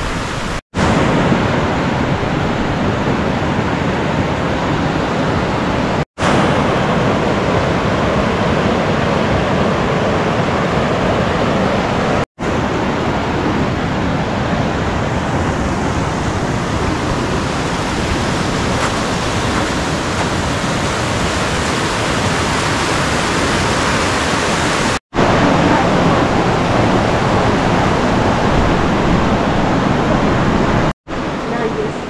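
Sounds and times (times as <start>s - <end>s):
rushing mountain stream: 0.0s - 32.0s.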